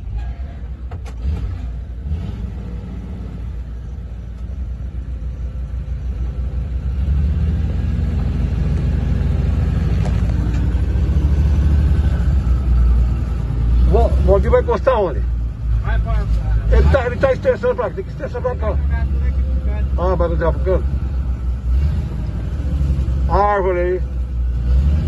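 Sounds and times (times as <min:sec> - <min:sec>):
tractor engine rumbling: 0:00.0 - 0:25.0.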